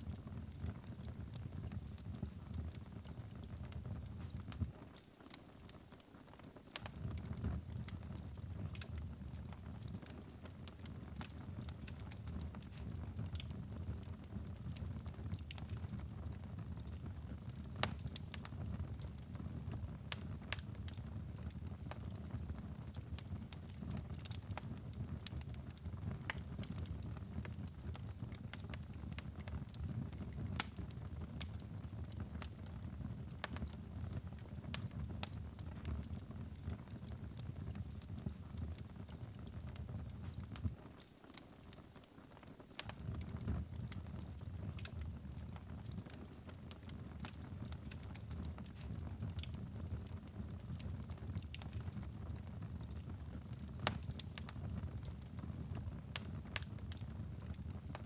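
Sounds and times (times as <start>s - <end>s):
wood fire crackling and popping: 0.0s - 58.0s
low rumble of flames: 6.8s - 40.8s, 42.7s - 58.0s.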